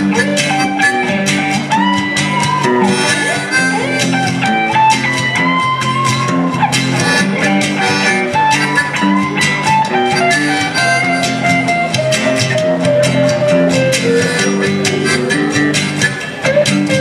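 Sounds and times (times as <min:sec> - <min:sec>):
guitar chords: 0:00.0 - 0:17.0
harmonica solo: 0:00.0 - 0:17.0.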